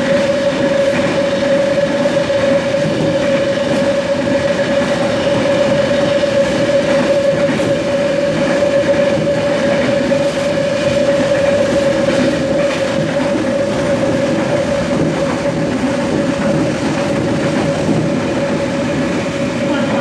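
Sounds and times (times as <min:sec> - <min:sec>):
wheels rumbling on track: 0:00.0 - 0:20.0.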